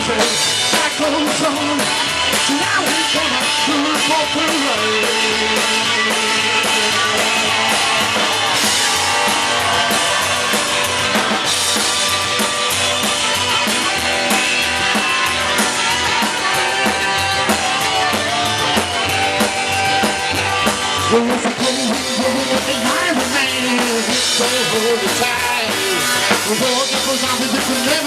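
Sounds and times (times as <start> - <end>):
drum kit beat: 0.0 - 28.0
electric guitar: 0.0 - 28.0
rock band playing: 0.0 - 28.0.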